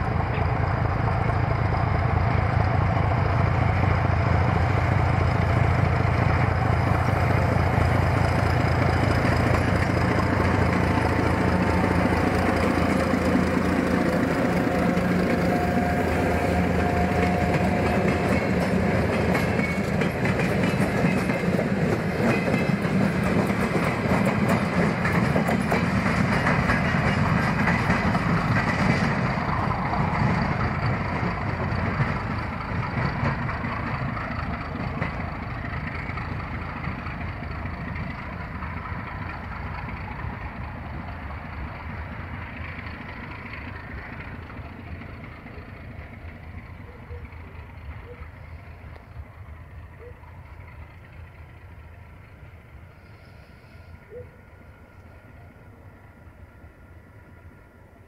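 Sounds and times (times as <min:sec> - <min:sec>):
train rolling past on track: 0:00.0 - 0:58.0.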